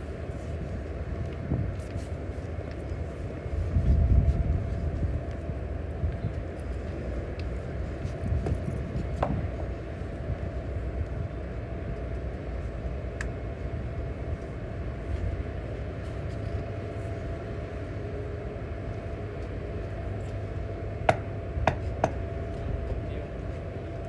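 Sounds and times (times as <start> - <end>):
machine rumbling with constant tone: 0.0 - 24.0.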